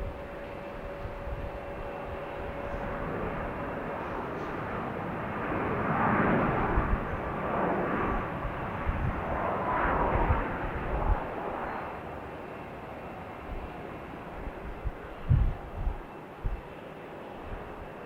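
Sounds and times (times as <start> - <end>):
airplane engine passing: 0.0 - 18.0.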